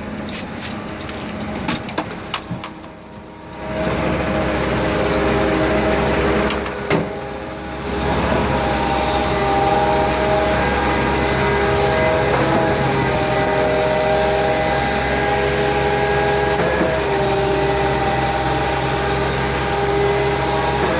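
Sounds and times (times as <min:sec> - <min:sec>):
heavy diesel machinery whining: 0:00.0 - 0:20.9.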